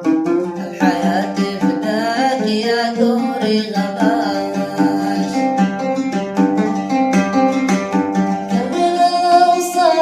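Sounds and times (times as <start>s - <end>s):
plucked string instrument: 0.0s - 10.0s.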